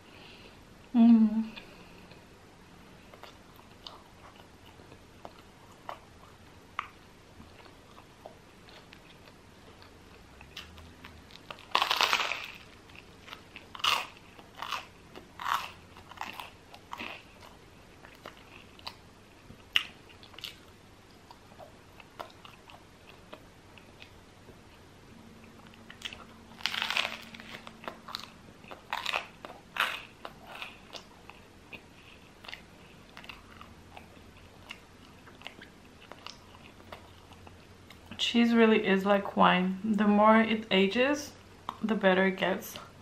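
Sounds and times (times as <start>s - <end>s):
crunchy food chewing: 3.0s - 38.2s.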